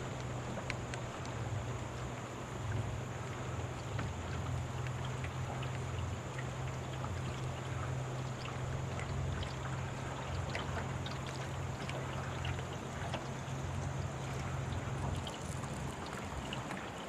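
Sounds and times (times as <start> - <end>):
boat motor droning: 0.0 - 17.0
small ticks and splashes: 0.0 - 17.0
water noise: 0.0 - 17.0.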